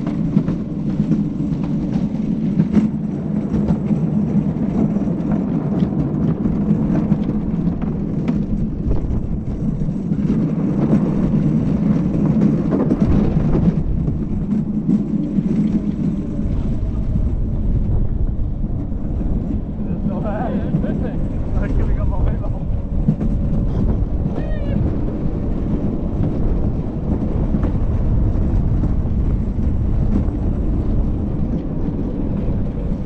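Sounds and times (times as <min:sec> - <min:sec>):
cart wheels rumbling on concrete: 0:00.0 - 0:33.0
wind noise on microphone: 0:00.0 - 0:33.0.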